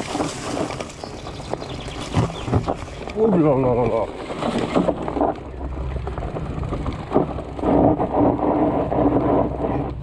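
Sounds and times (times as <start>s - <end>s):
bike rattling: 0.0s - 10.0s
tyres crunching over dirt: 0.0s - 10.0s
wind rumble on microphone: 0.0s - 10.0s.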